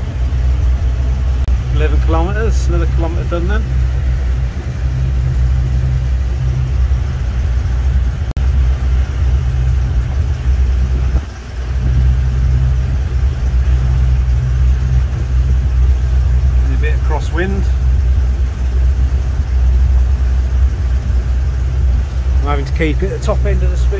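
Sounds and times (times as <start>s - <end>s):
boat engine humming: 0.0s - 23.9s.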